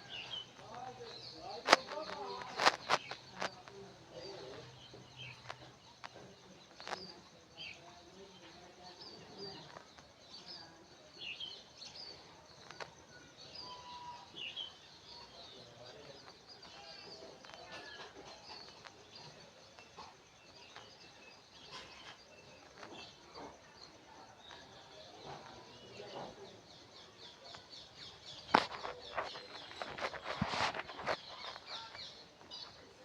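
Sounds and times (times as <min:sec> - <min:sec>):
faint bird chirps: 0:00.0 - 0:33.0.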